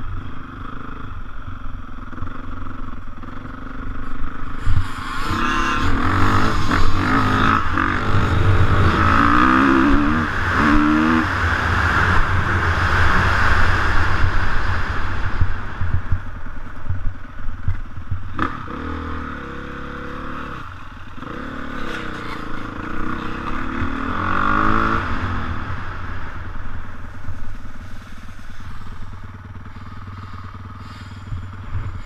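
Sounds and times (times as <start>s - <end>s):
dirt bike engine revving: 2.1s - 16.2s, 18.2s - 32.0s.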